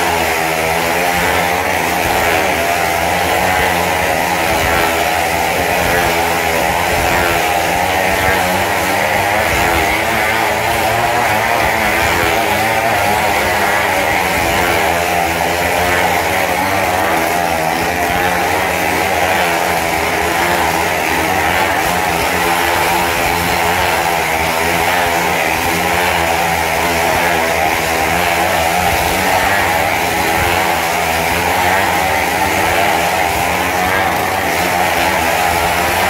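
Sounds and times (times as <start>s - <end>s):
motorcycle engines running hard: 0.0s - 36.0s.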